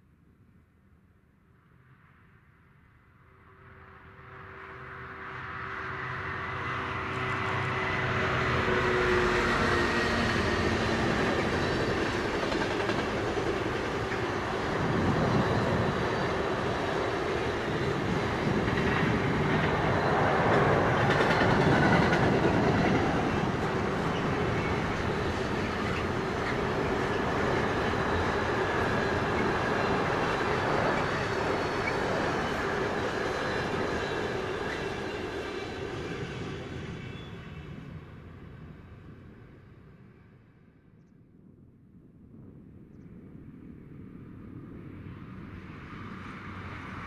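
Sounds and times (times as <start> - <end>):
diesel locomotive engine drone: 1.6 - 41.0, 43.7 - 47.0.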